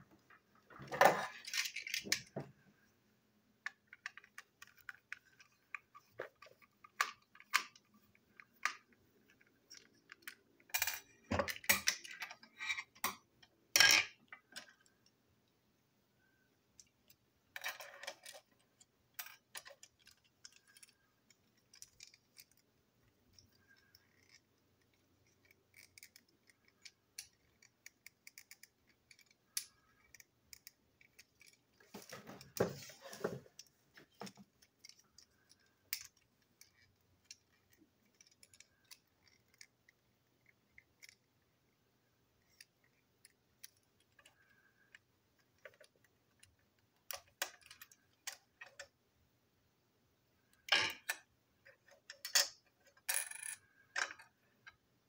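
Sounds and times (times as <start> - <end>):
plastic parts clicking and knocking: 0.1 - 2.6, 3.6 - 15.2, 16.2 - 41.4, 42.4 - 49.0, 50.5 - 54.8.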